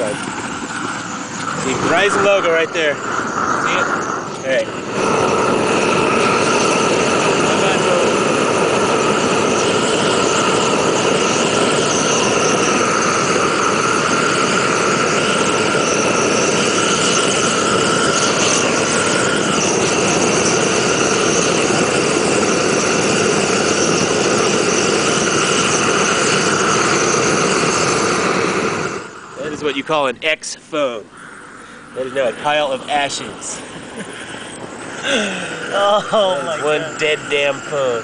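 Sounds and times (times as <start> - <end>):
faint steady tones: 0.0 - 38.0
gas torch hissing: 0.0 - 38.0.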